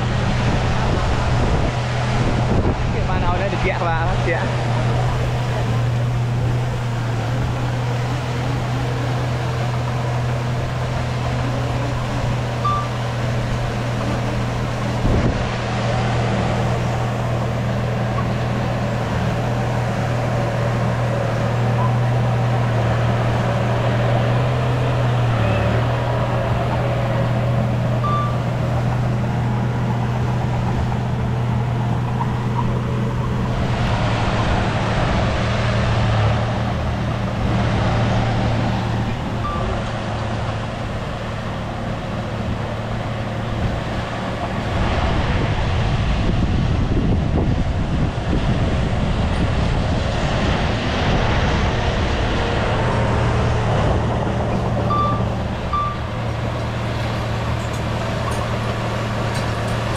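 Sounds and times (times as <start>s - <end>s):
bulldozer diesel engine running: 0.0s - 59.9s
rough working noise: 0.0s - 59.9s.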